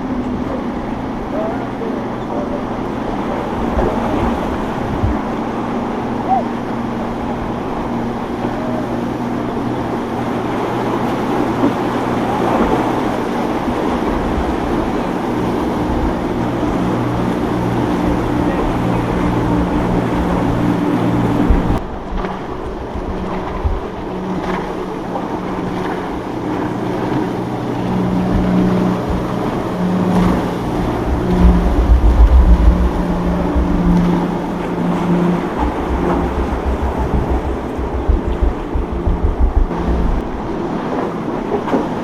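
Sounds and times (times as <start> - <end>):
boat engines droning: 0.0 - 42.0
water noise: 0.0 - 42.0
wind: 0.0 - 42.0
wind buffeting microphone: 0.0 - 42.0.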